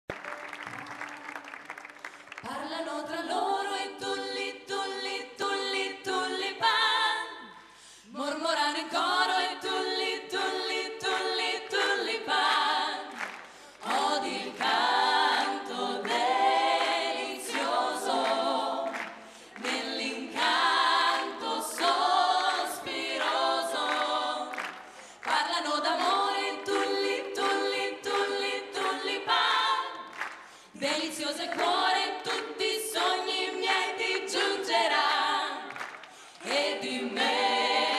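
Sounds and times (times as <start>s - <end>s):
women singing a cappella: 2.4s - 37.9s.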